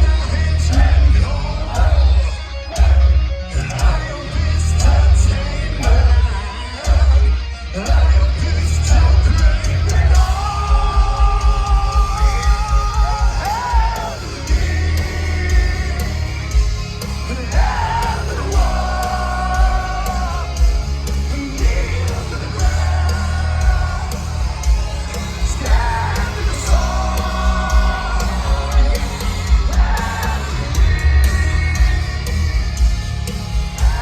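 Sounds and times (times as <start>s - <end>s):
person yelling and singing: 0.0s - 16.4s, 17.2s - 32.0s
heavy metal band playing live: 0.0s - 34.0s.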